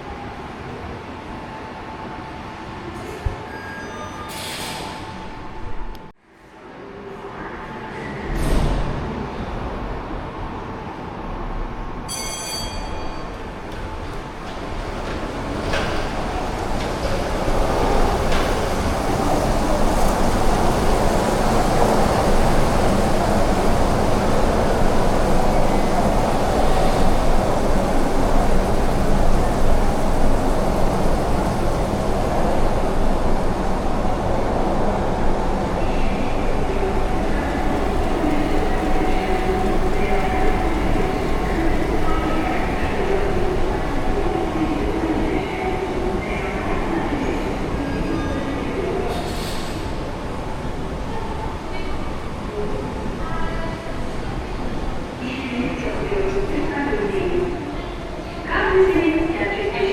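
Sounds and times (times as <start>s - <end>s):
rail car rumbling on track: 0.0s - 59.9s.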